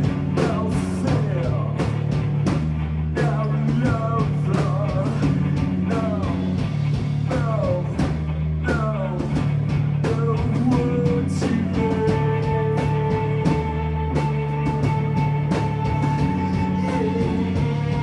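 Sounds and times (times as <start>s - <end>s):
droning bass line: 0.0s - 18.0s
drums on a steady beat: 0.0s - 18.0s
noise rock band playing: 0.0s - 18.0s.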